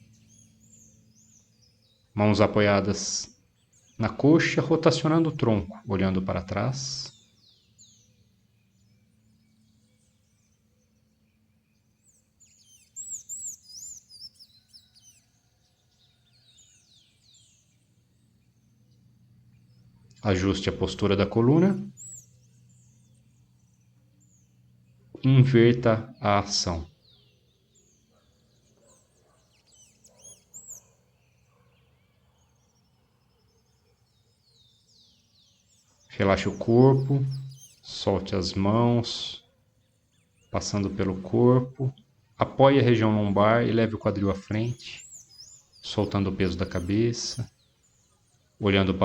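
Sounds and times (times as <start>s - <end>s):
birds singing and chirping: 0.0s - 49.0s
faint low hum: 0.0s - 49.0s.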